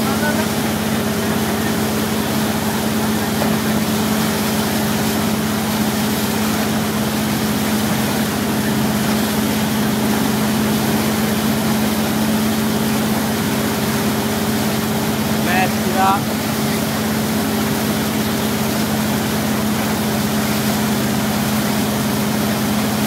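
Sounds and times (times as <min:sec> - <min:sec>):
motorboat engine humming: 0:00.0 - 0:23.0
water rushing in boat wake: 0:00.0 - 0:23.0.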